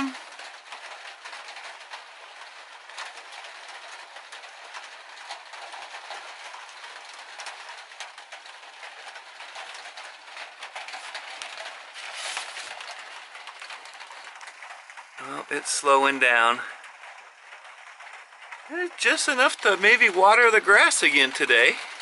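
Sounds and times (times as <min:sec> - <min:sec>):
rain on a steel roof: 0:00.0 - 0:22.0
raindrop ticks: 0:00.0 - 0:22.0.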